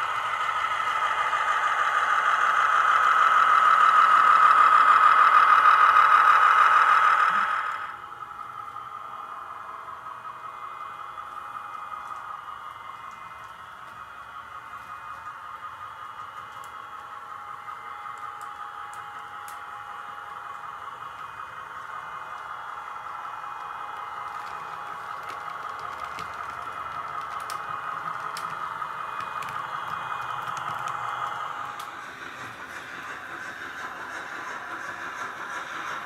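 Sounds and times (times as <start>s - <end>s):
model train whirring: 0.0s - 36.0s.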